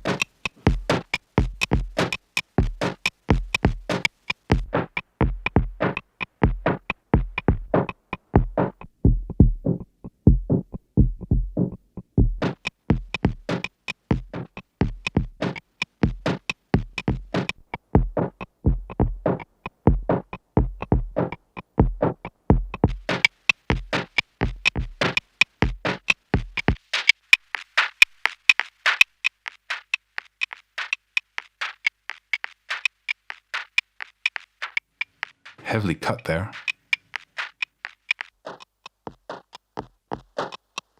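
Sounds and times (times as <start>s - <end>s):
drum machine beat: 0.0s - 40.9s.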